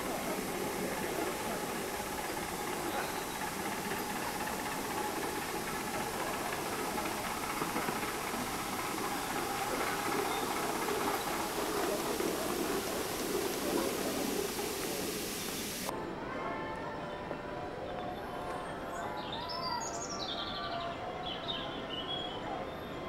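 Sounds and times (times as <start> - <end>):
miniature steam locomotive running: 0.0 - 21.8.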